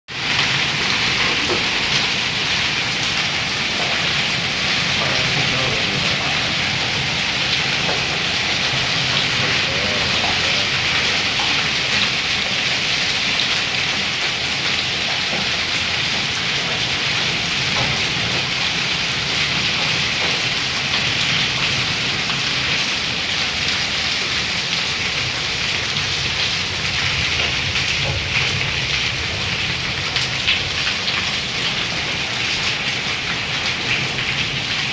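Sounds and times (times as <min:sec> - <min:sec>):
rain and hail on concrete: 0:00.1 - 0:34.9.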